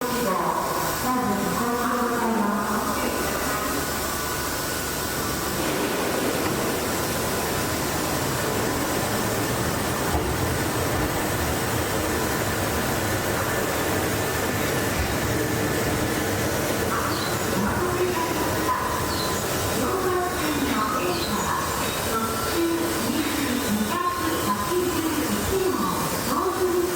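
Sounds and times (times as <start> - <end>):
train running hiss and rumble: 0.0 - 26.9.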